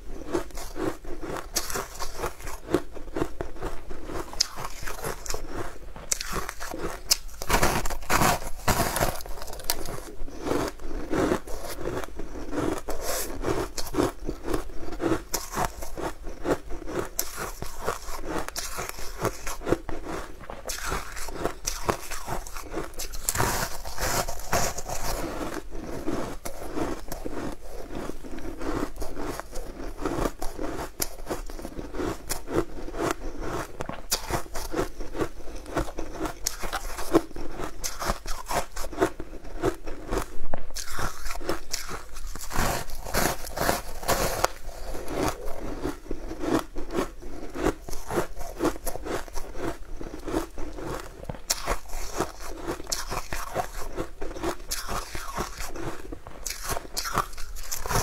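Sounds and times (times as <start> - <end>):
crunchy sweets being chewed: 0.0 - 58.0.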